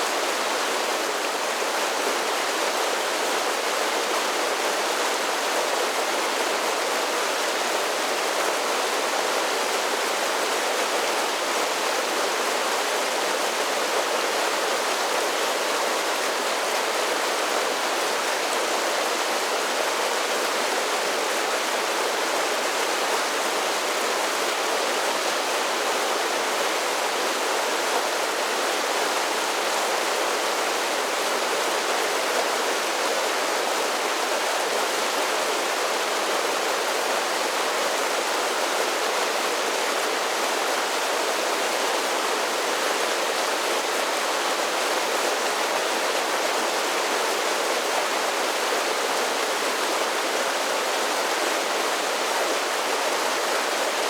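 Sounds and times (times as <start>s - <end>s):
creek rushing over small falls: 0.0s - 54.0s.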